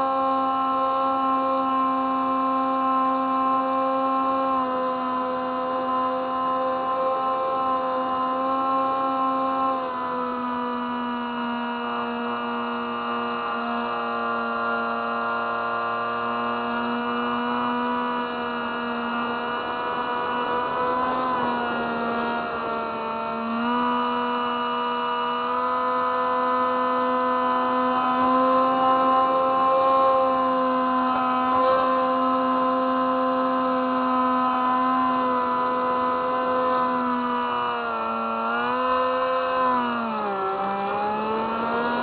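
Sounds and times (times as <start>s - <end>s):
model plane motor whine: 0.0s - 42.0s.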